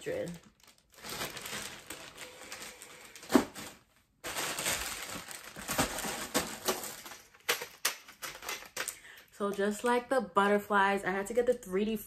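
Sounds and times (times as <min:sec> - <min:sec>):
plastic bags crinkling: 0:00.0 - 0:09.9.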